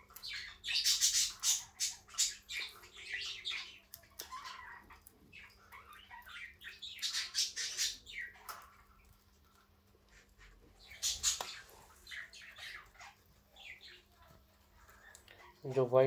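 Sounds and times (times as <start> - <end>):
guinea pigs squeaking: 0.0 - 16.0.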